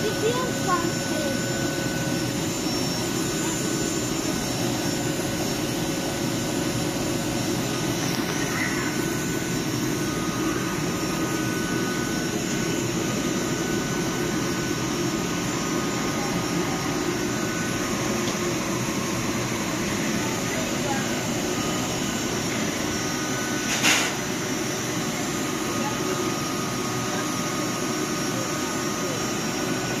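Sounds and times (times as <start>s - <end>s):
train cooling fans humming: 0.0s - 30.0s.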